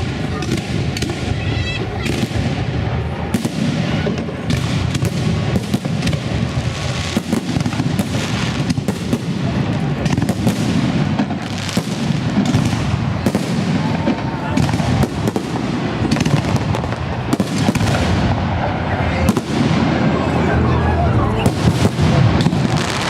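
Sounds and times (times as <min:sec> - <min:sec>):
fireworks bangs and booms: 0:00.0 - 0:23.0.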